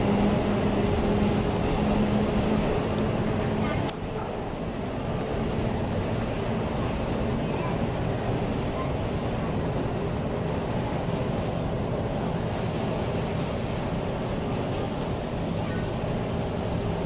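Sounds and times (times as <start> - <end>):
electric train running on tracks: 0.0 - 17.0.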